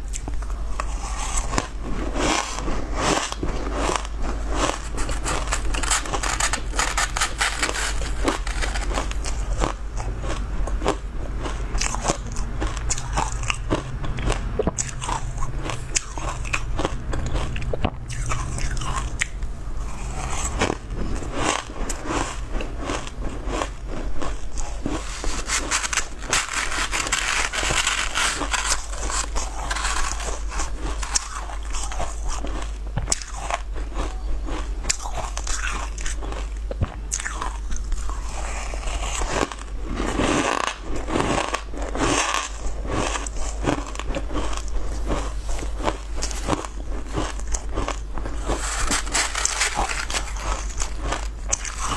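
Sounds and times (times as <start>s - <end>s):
crunching and chewing ice: 0.0s - 51.9s
steady low hum: 0.0s - 51.9s.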